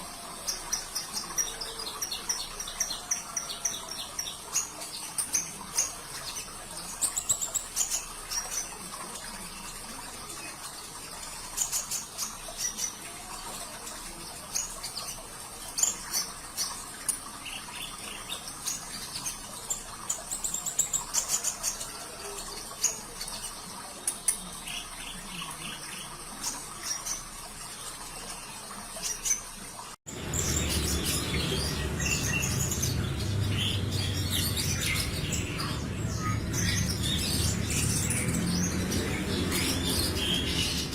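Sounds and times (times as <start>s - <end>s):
bird chirping and trilling: 0.0s - 40.9s
running water trickling: 0.0s - 40.9s.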